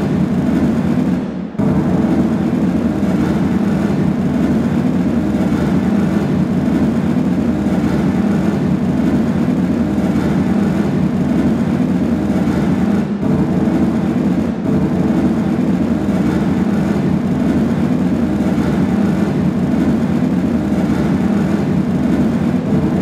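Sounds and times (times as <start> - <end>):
dense electronic drone: 0.0 - 23.0.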